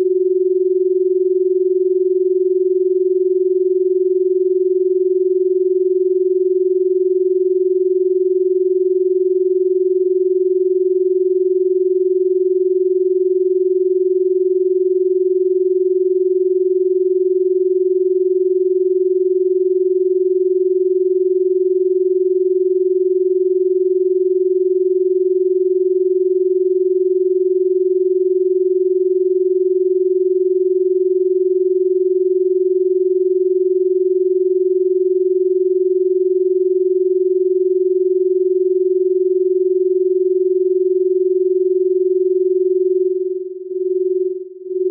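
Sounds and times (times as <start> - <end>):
electronic sine tone: 0.0 - 44.9.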